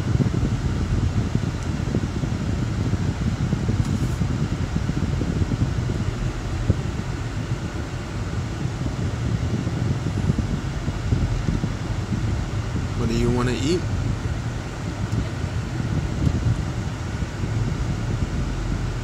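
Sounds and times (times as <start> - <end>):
car cabin road and engine rumble: 0.0 - 19.0.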